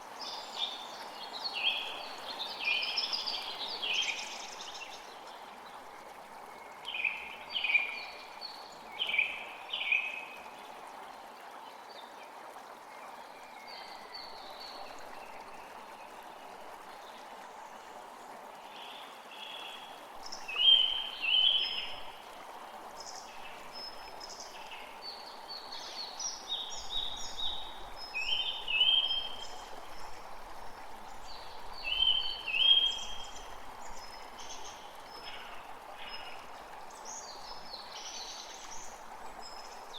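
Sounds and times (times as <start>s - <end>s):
creek flowing: 0.0s - 39.9s.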